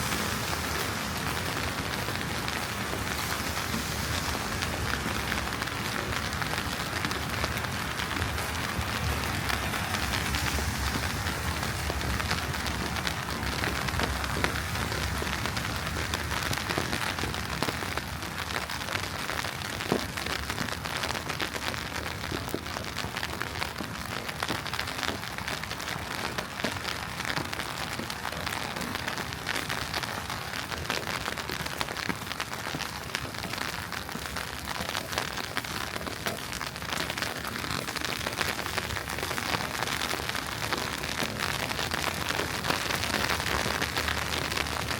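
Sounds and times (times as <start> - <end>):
wet snow falling on street: 0.0 - 44.9.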